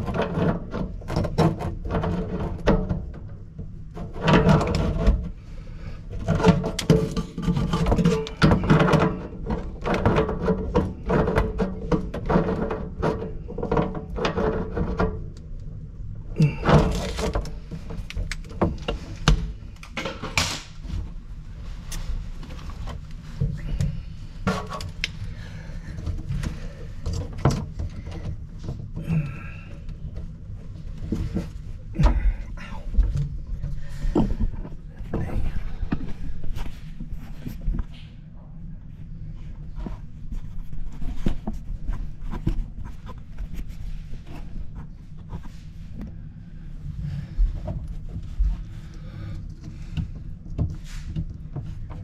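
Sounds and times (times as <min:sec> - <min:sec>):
hoses and fittings knocking and rattling: 0:00.0 - 0:52.0.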